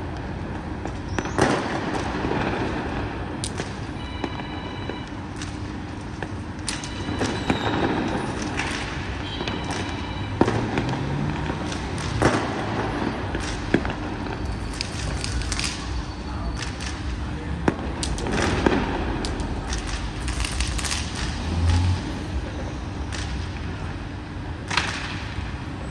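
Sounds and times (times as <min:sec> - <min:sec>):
firecrackers cracking: 0:00.0 - 0:25.8
street traffic hum: 0:00.0 - 0:25.9
distant voices: 0:00.2 - 0:25.9.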